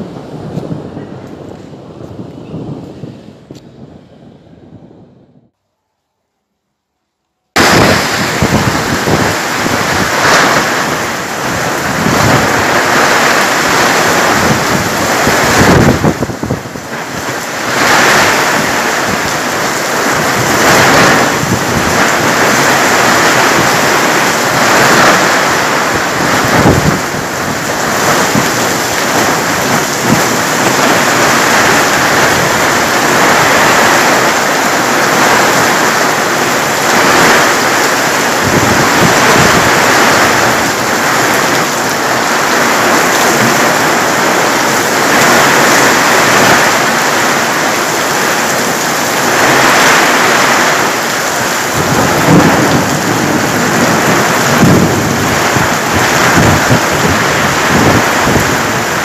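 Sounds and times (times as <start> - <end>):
heavy rain pouring: 0.0 - 5.5, 7.5 - 59.0
gusty wind: 0.0 - 5.7, 7.5 - 59.0.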